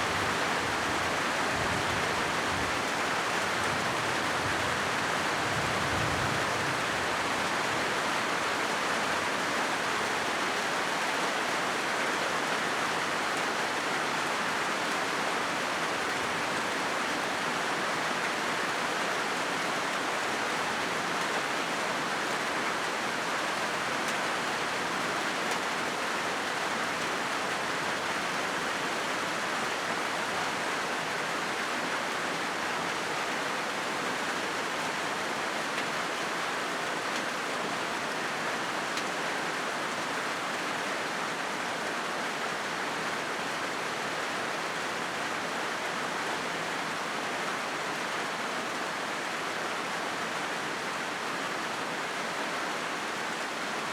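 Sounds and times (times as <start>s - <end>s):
rain on a metal roof: 0.0s - 53.9s.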